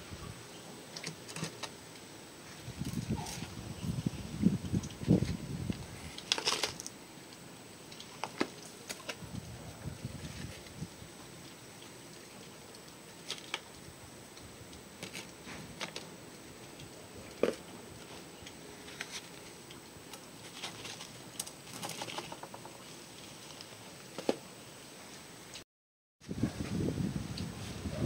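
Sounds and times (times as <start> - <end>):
low steady hiss: 0.0 - 25.6, 26.3 - 28.0.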